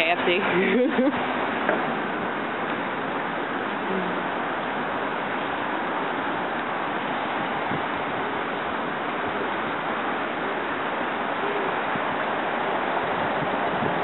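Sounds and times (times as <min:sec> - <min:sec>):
city street traffic roar: 0:00.0 - 0:14.0.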